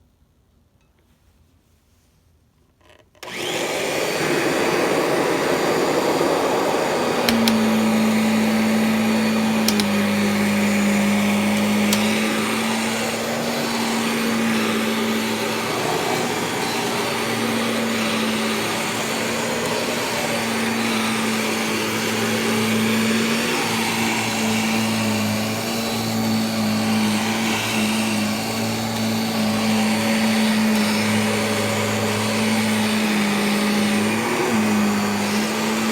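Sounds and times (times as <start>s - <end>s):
vacuum cleaner running: 3.2s - 35.9s.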